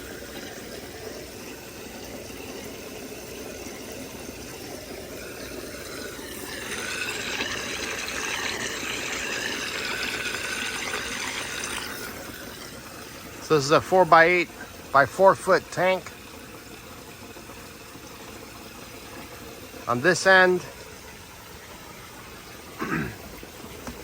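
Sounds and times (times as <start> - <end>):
water churning in fish tank: 0.0 - 24.0.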